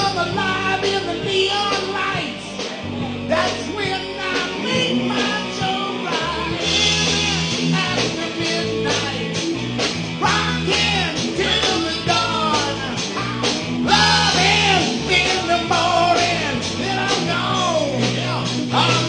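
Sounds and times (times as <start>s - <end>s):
person singing: 0.0s - 9.5s, 10.2s - 19.0s
live rock band: 0.0s - 19.0s.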